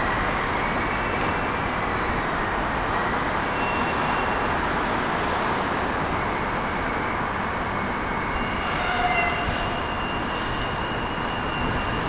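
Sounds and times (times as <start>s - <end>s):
train traction whine: 0.0s - 12.0s.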